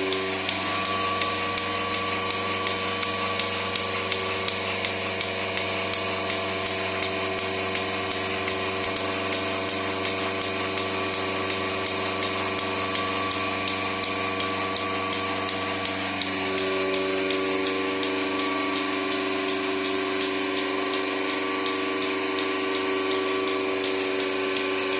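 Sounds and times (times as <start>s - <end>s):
milking machine humming: 0.0s - 24.9s.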